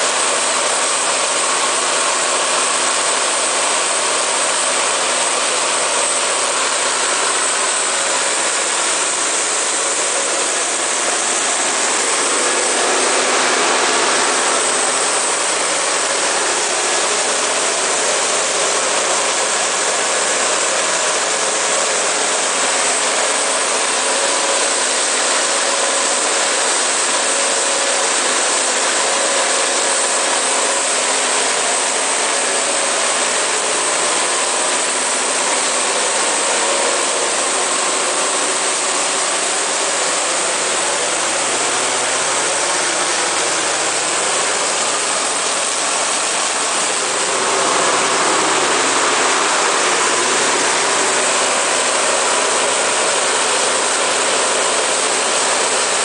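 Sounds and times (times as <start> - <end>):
diesel generator running: 0.0 - 56.0.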